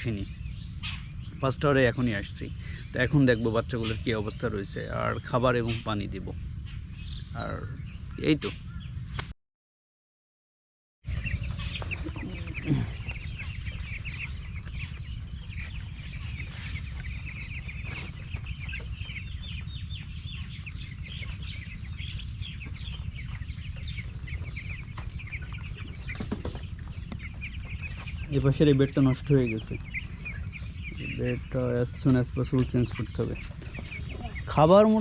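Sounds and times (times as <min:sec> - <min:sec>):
chicks peeping: 0:00.0 - 0:09.2, 0:11.1 - 0:35.0.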